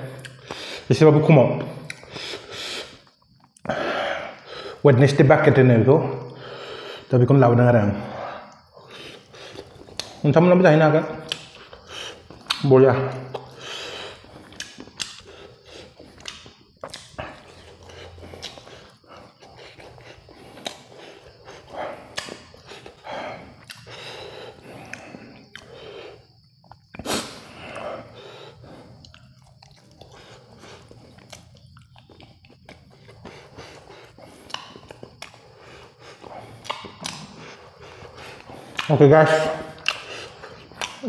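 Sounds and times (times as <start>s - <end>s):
person chewing crunchy food: 0.1s - 0.9s, 1.7s - 4.8s, 8.2s - 10.3s, 11.2s - 41.0s
mouth clicks: 1.6s - 4.8s, 8.4s - 10.2s, 11.1s - 41.0s.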